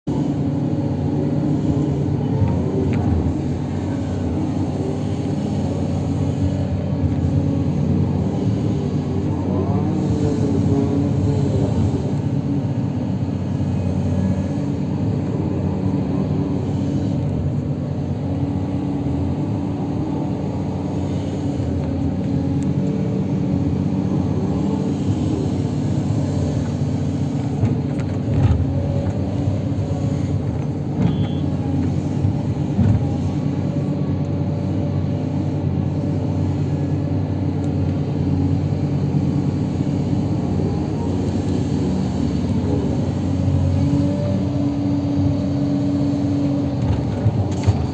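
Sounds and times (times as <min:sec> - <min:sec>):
diesel machine engine running: 0:00.1 - 0:47.9.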